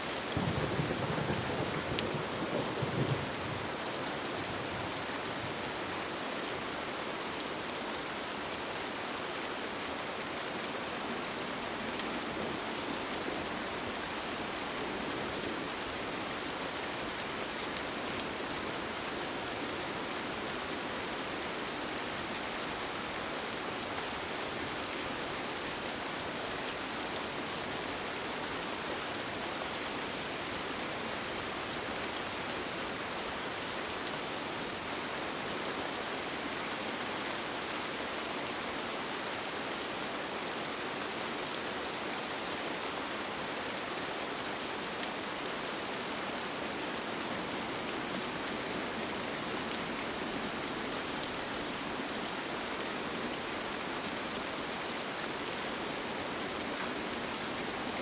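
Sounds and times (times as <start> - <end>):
rain falling on a tent: 0.0 - 58.0.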